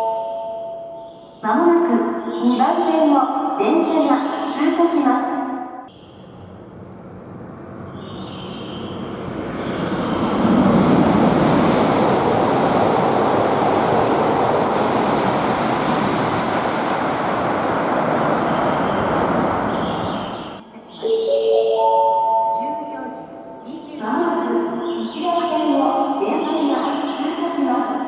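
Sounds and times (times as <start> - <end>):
high-speed train rushing past: 0.0 - 21.3, 22.5 - 28.0.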